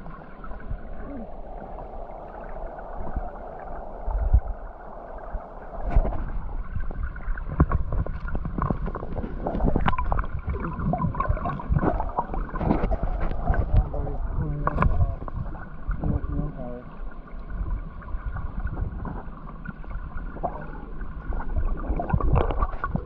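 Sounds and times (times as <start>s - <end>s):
underwater river gurgling: 0.0s - 23.0s.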